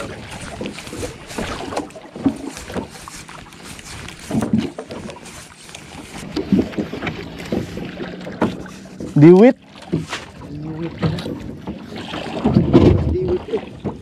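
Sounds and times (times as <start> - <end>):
boat knocks and creaks: 0.0 - 14.0
water washing along hull: 0.0 - 14.0.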